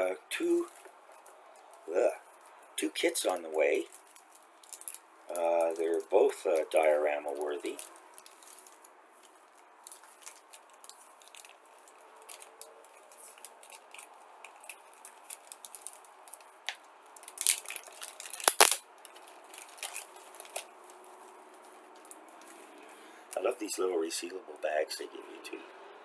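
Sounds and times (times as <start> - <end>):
plastic bags rustling: 0.0 - 23.6
plastic packaging crinkling: 0.0 - 23.6.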